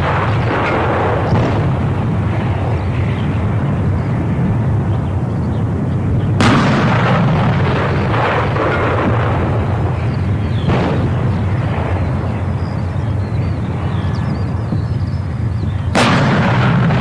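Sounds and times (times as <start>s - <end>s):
howitzer blast: 0.0s - 17.0s
steady low rumble: 0.0s - 17.0s.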